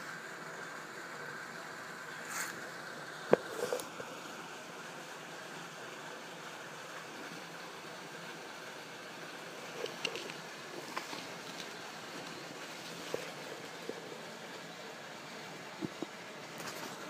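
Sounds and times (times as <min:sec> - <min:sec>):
churning bubbling pool water: 0:00.0 - 0:17.0.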